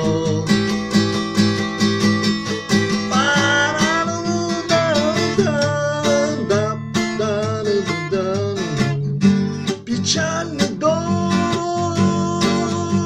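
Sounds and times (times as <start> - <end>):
man singing: 0.0 - 1.2, 2.9 - 13.0
acoustic guitar strumming: 0.0 - 13.0.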